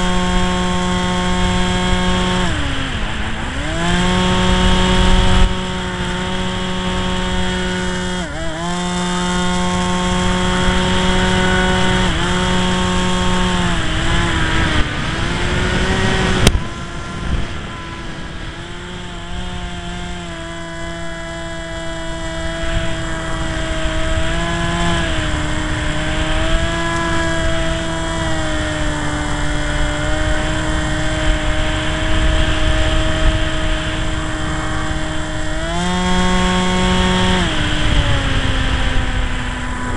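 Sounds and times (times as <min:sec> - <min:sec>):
model plane motor whining: 0:00.0 - 0:39.9
wind buffeting microphone: 0:00.0 - 0:39.9.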